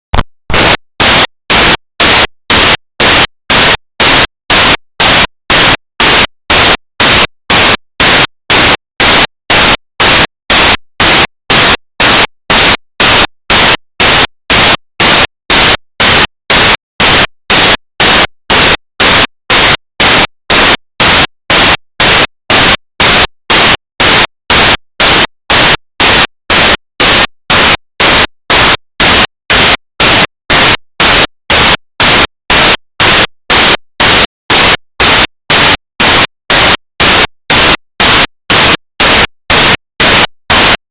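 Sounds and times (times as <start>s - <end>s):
bursts of static hiss: 0.1s - 40.8s.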